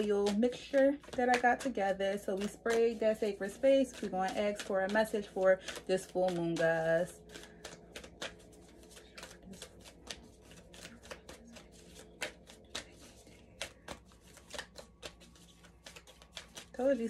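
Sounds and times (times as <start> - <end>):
cards being shuffled: 0.0 - 17.0.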